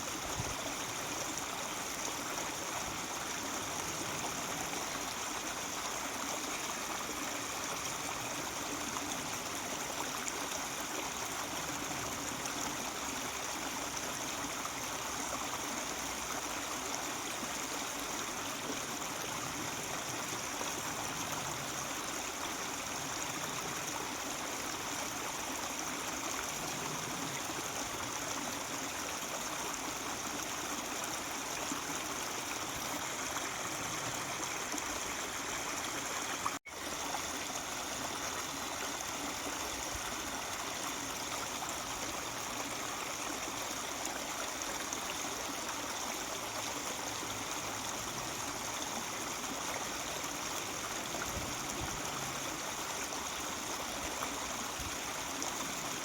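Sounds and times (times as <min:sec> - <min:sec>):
mountain stream babbling: 0:00.0 - 0:56.0.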